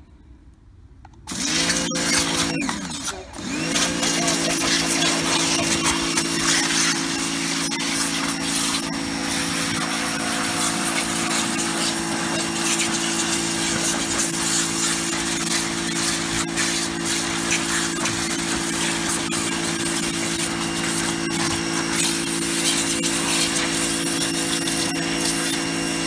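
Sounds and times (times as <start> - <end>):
pressure washer motor hum: 1.3 - 26.0
water jet spraying on plastic: 1.3 - 26.0.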